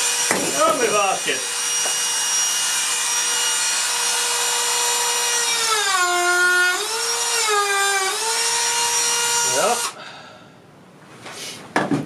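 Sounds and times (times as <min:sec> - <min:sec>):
rotary tool high whine: 0:00.0 - 0:10.0.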